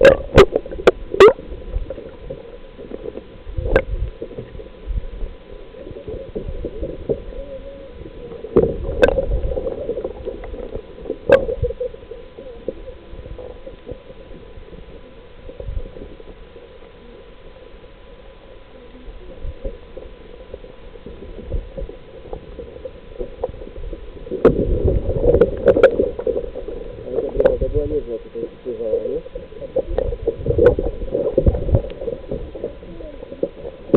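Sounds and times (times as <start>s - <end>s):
muffled water sloshing: 0.0s - 33.9s.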